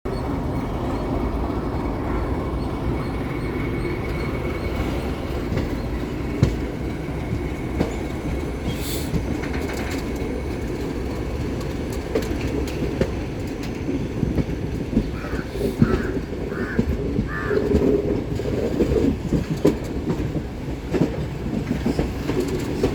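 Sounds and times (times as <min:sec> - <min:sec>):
train wheels rumbling on rails: 0:00.1 - 0:22.9.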